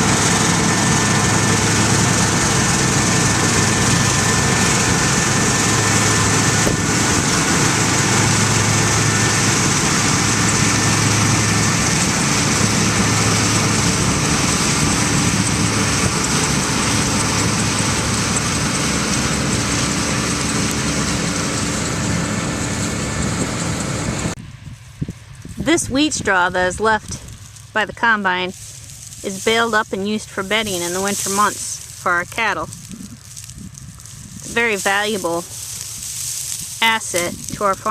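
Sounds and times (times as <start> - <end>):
combine engine hum: 0.0 - 37.9.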